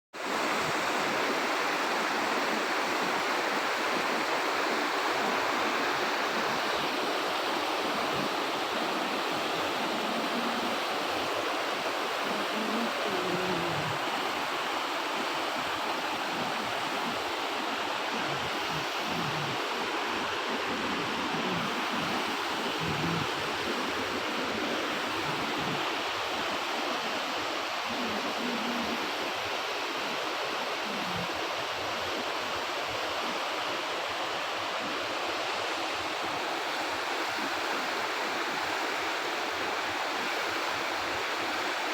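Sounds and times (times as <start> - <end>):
mountain stream rushing: 0.2 - 41.9.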